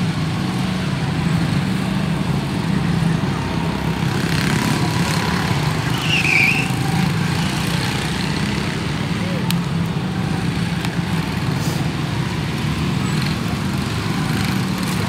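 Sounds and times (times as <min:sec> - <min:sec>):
small race car engines droning: 0:00.0 - 0:15.0.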